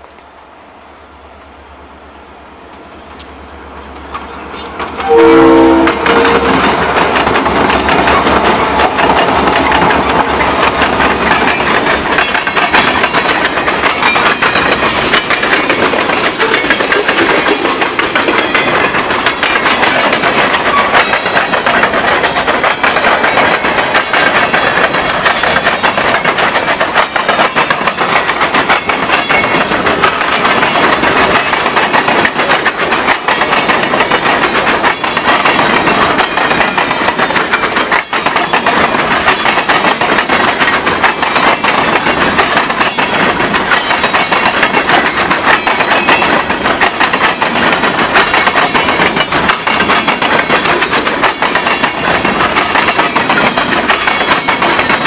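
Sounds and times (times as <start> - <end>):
train wheels clattering over rails: 3.2 - 55.0.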